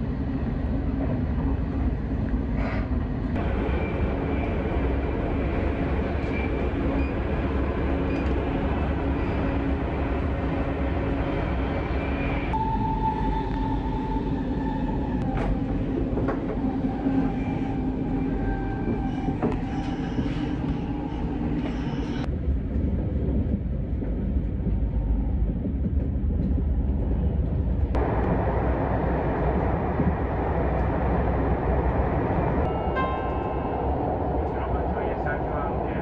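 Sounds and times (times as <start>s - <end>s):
train rumble inside carriage: 0.0s - 36.0s.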